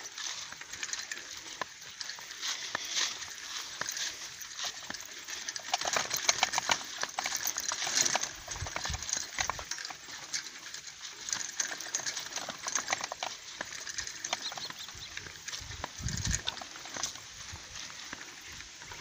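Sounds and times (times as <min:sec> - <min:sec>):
bicycle clicking and rustling: 0:00.0 - 0:19.0.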